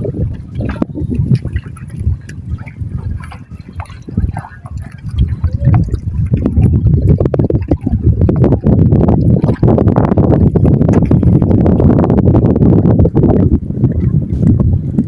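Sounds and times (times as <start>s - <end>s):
low rumble: 0.0s - 15.0s
seawater sloshing and gurgling: 0.0s - 15.0s.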